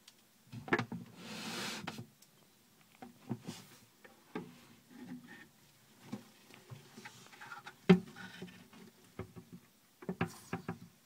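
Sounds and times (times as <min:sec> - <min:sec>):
soft hiss-like rush: 0:00.0 - 0:11.0.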